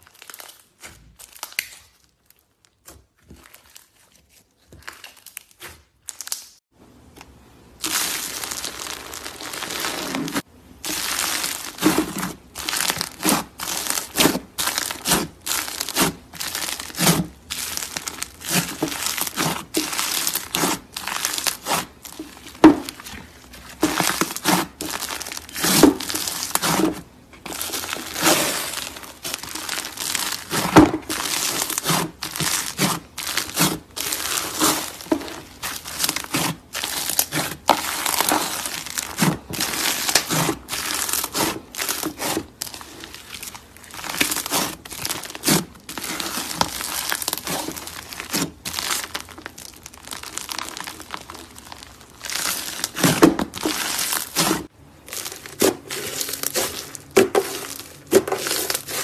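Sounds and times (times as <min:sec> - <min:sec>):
slime squelching crackling: 0:07.2 - 0:59.0.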